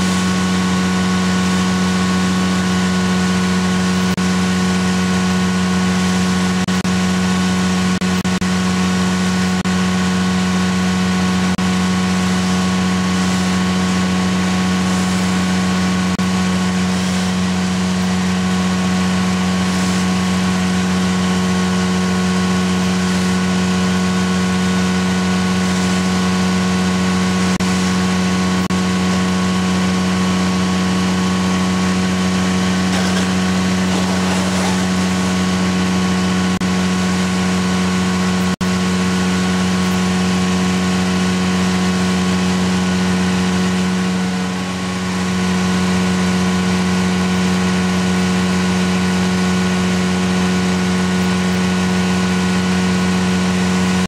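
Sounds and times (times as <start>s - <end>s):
vacuum unit engine running: 0.0s - 54.0s.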